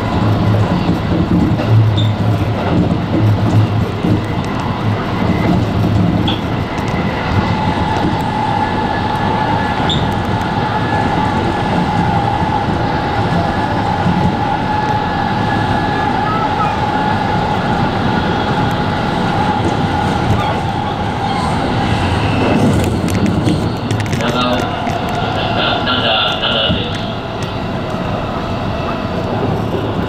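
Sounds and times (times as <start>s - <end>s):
train running on rails: 0.0s - 30.0s.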